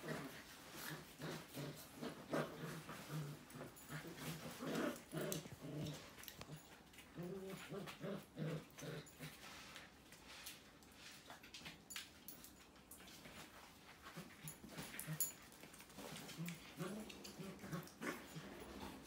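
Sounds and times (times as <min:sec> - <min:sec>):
puppies play-growling: 0:00.0 - 0:19.0.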